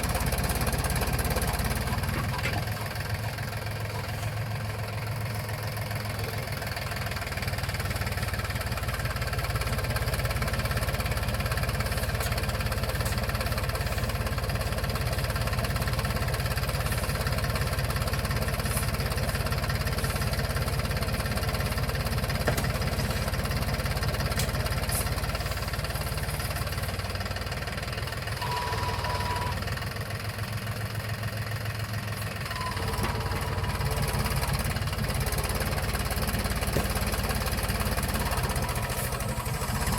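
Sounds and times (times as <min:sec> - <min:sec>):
tractor diesel engine knocking: 0:00.0 - 0:39.9.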